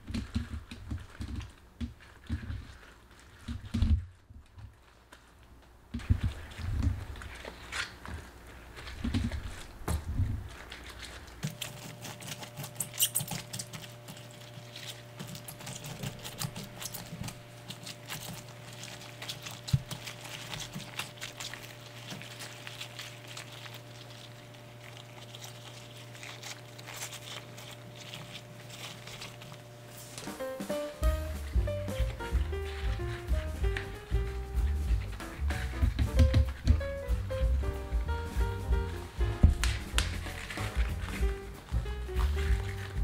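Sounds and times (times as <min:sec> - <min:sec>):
wet squelching: 0:00.0 - 0:36.8, 0:38.0 - 0:43.0.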